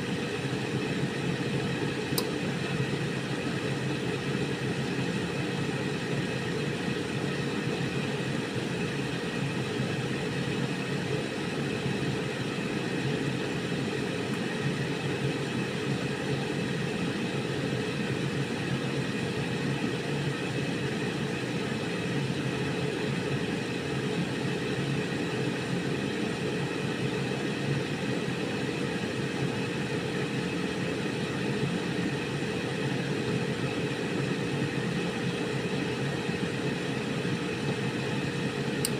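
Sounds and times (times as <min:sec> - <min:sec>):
air fryer fan humming: 0:00.0 - 0:38.9.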